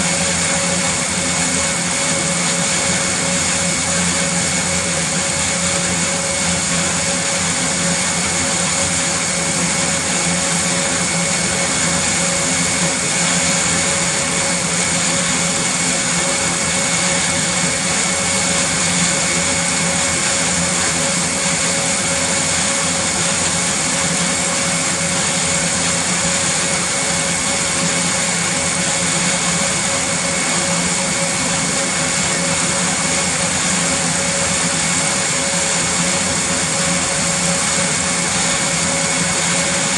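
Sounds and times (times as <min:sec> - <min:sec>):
high engine whine: 0:00.0 - 0:39.9
turboprop engines roaring: 0:00.0 - 0:39.9.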